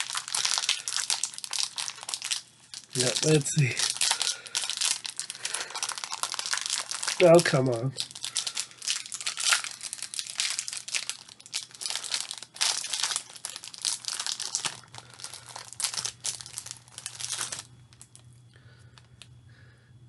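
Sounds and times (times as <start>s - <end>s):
plastic wrapper crinkling: 0.0s - 19.3s.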